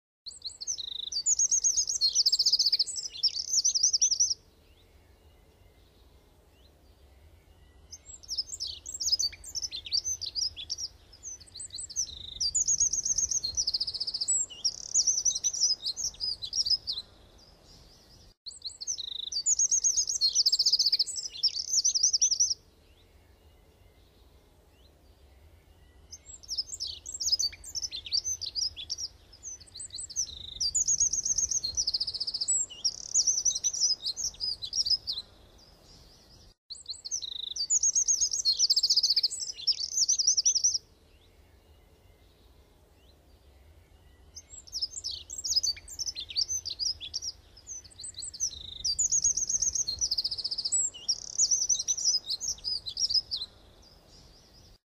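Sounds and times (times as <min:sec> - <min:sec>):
songbird chirps and trills: 0:00.3 - 0:54.8.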